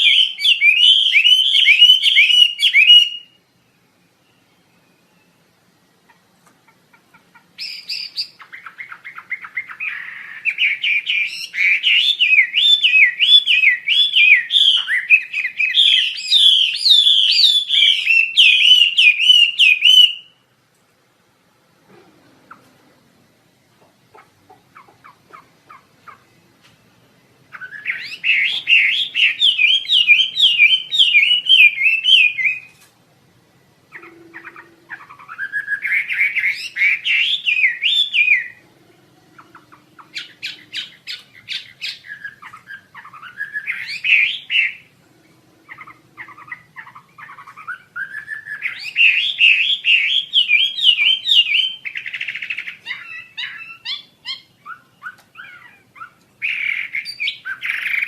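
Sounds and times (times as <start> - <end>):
songbird warbling: 0.0 - 20.4, 23.8 - 32.8, 33.8 - 58.0.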